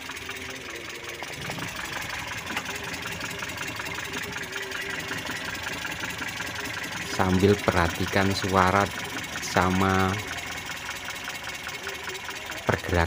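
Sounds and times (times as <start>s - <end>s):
engine idling with ticking: 0.0s - 13.0s.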